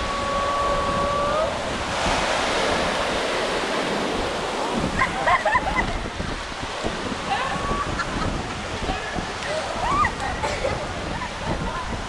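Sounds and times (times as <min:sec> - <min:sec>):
ocean surf washing on beach: 0:00.0 - 0:12.0
wind on microphone: 0:00.0 - 0:12.0.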